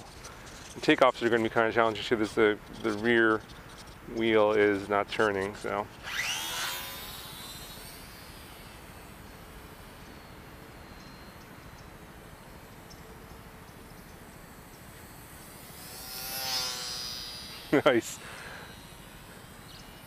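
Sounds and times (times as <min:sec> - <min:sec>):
model airplane motor whine: 0:00.0 - 0:20.0.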